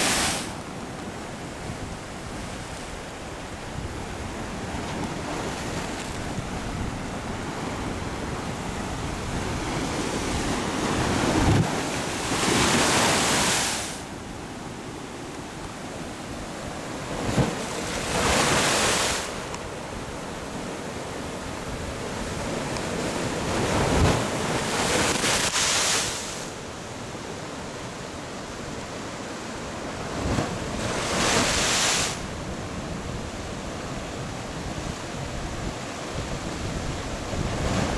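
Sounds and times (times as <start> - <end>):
waves surging into blowhole: 0.0 - 15.0, 15.9 - 27.5, 28.2 - 37.9
steady surf: 0.0 - 37.9.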